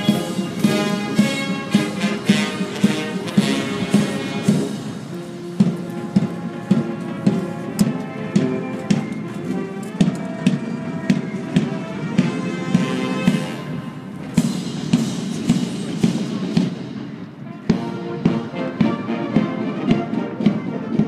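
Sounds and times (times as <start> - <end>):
military band playing a march: 0.0 - 21.0
steady drum beat: 0.0 - 21.0.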